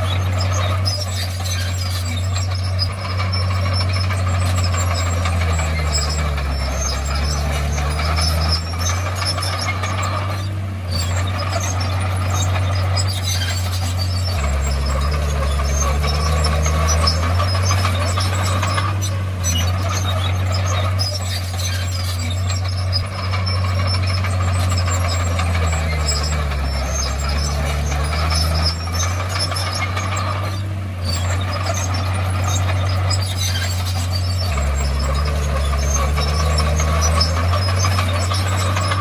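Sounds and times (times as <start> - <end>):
bulldozer diesel engine drone: 0.0 - 39.0.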